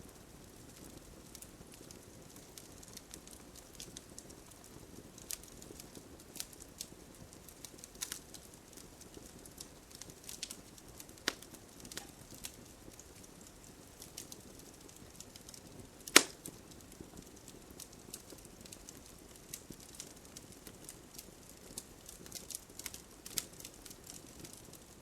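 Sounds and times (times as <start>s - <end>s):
campfire crackling and hissing: 0.0s - 25.0s.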